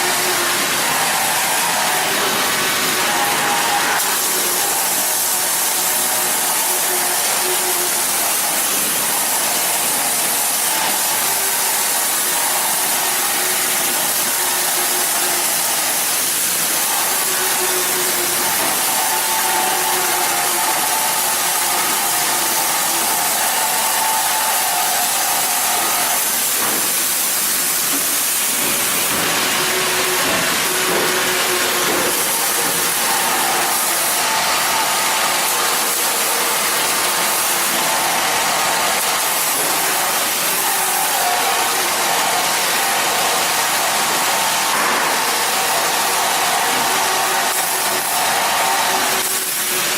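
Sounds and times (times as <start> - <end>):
welding arc hissing: 0.0 - 49.9.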